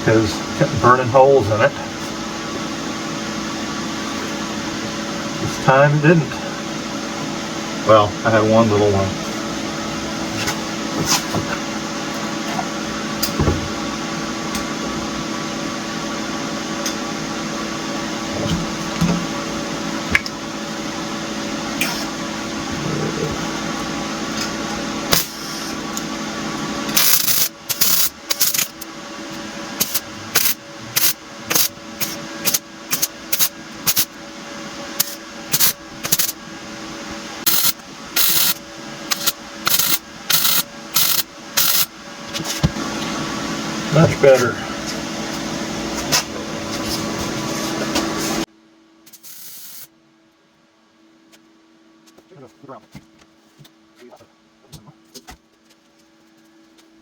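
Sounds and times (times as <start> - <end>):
machine hum with tones: 0.0 - 57.0.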